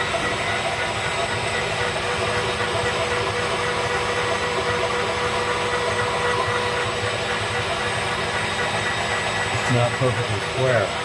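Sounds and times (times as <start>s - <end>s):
lathe motor humming and whining: 0.0s - 11.0s.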